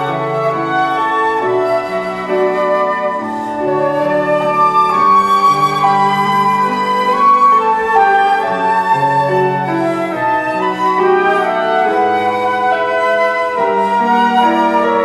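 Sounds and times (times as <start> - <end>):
slow flute ensemble music: 0.0 - 15.0.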